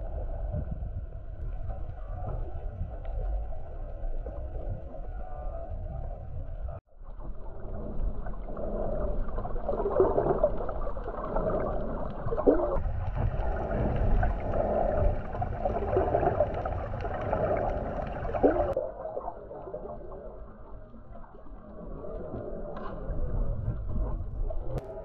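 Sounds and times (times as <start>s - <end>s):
muffled underwater water sloshing: 0.0s - 25.0s.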